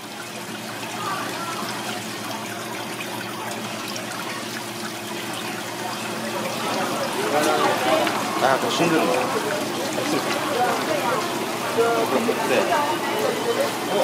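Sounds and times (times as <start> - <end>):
water trickling in a tank: 0.0 - 14.0.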